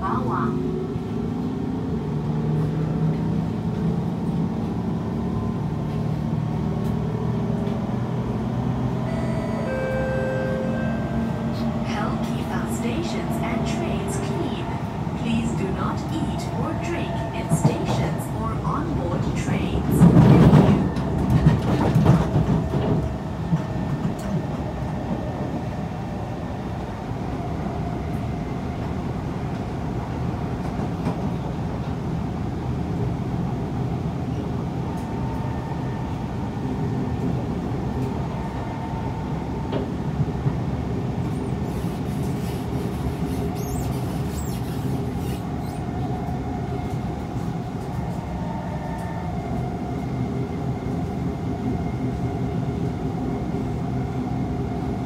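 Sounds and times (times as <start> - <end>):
train wheels rumbling on rails: 9.7 - 55.0.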